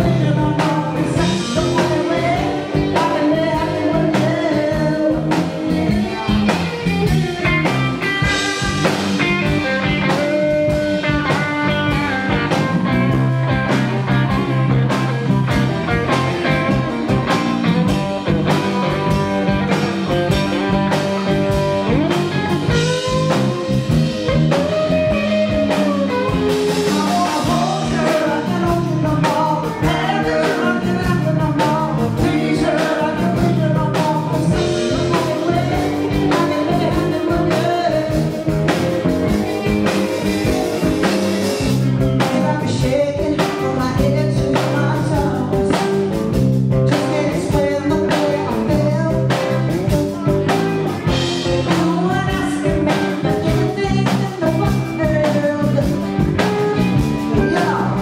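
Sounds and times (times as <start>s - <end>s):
drums: 0.0s - 58.0s
electric bass: 0.0s - 58.0s
electric guitar: 0.0s - 58.0s
person singing: 0.0s - 58.0s.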